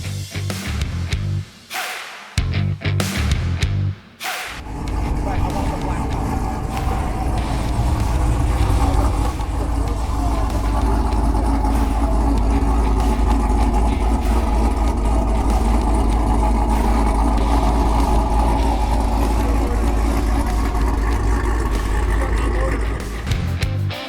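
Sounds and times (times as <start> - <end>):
vehicle engine idling: 4.6 - 23.9.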